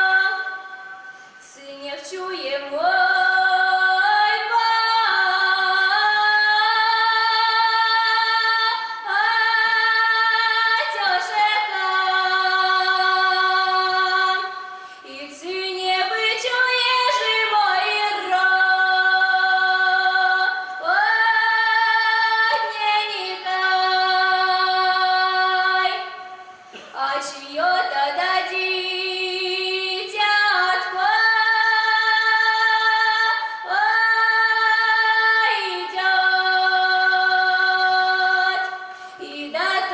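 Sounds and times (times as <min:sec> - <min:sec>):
woman singing unaccompanied: 0:00.0 - 0:00.8, 0:01.4 - 0:26.2, 0:26.9 - 0:39.9.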